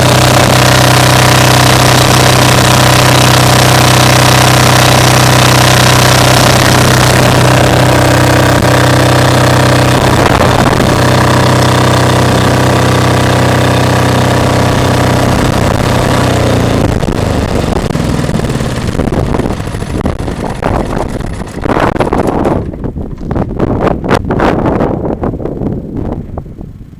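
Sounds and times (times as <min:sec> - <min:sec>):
diesel generator humming: 0:00.0 - 0:26.9
wind gusts on microphone: 0:04.1 - 0:26.9.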